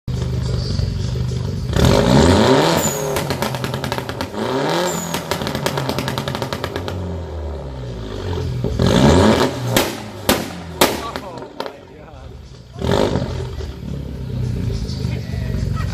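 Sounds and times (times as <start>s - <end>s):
loud car exhaust revving: 0.1s - 15.9s.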